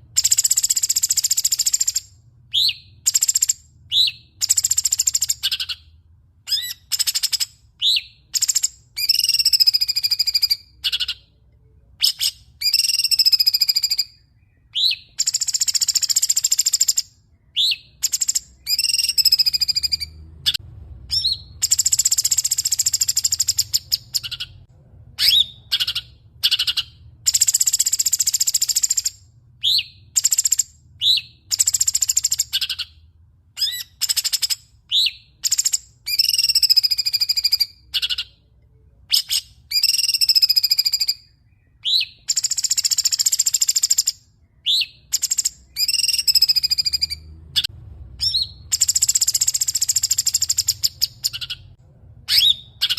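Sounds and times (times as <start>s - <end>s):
bird chirps and whistles: 0.1s - 5.9s, 6.5s - 11.4s, 12.0s - 24.6s, 25.2s - 38.4s, 39.1s - 52.9s.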